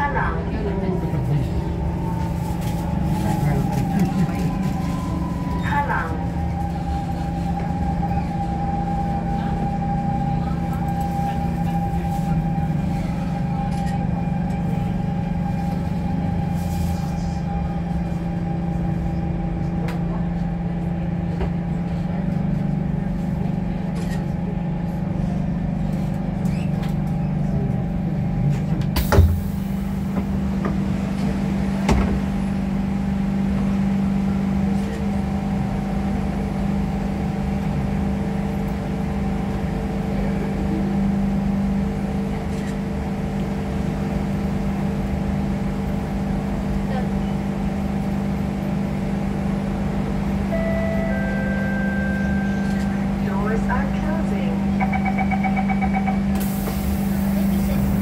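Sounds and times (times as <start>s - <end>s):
train car rumble: 0.0s - 58.0s.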